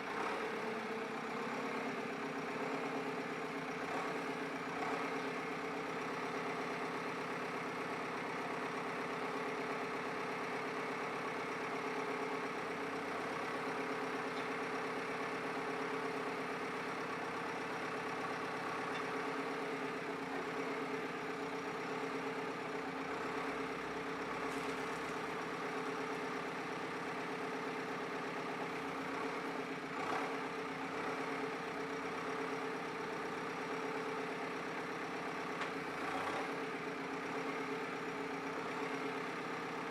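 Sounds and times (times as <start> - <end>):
diesel engine idling: 0.1 - 36.1.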